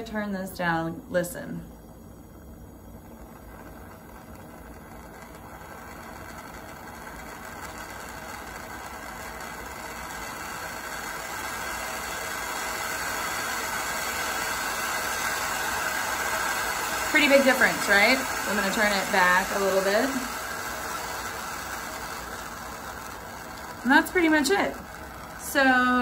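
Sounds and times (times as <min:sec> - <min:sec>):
torch flame hissing: 0:01.1 - 0:26.0.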